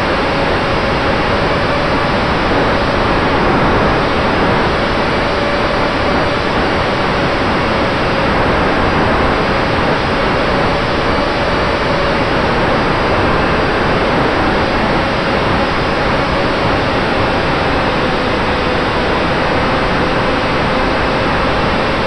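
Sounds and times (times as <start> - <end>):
electric motor and propeller whine: 0.0 - 22.0
wind rushing over microphone: 0.0 - 22.0.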